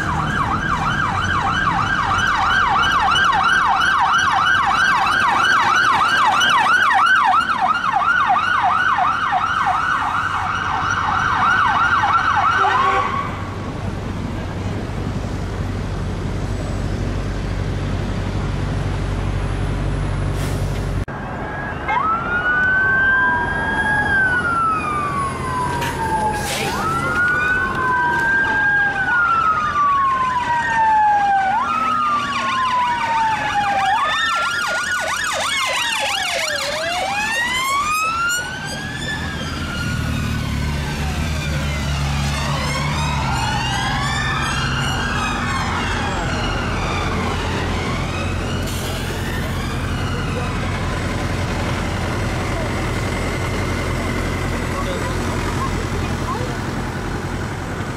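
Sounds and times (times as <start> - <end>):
police siren wailing: 0.0 - 13.6, 21.1 - 57.9
low traffic rumble: 0.0 - 57.9.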